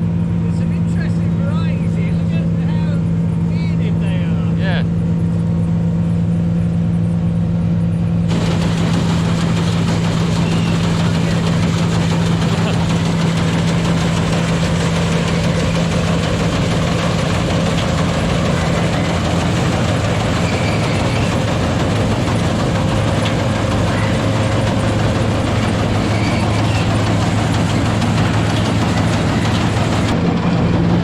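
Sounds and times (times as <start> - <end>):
combine harvester engine humming: 0.0 - 31.0.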